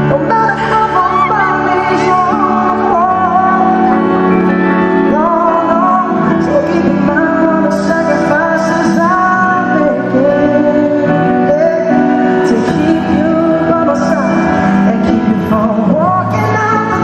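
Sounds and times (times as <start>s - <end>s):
band accompaniment: 0.0s - 17.0s
man singing with vibrato: 0.0s - 17.0s.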